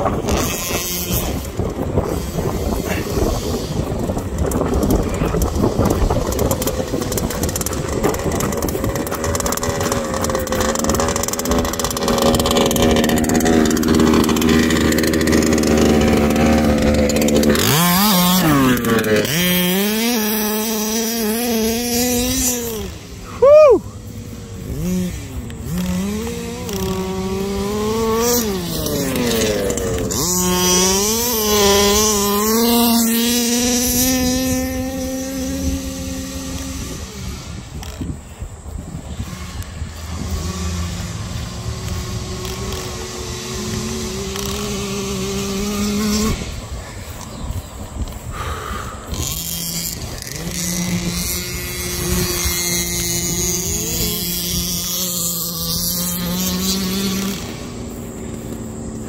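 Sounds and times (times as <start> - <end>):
small two-stroke engine revving: 0.0 - 59.0.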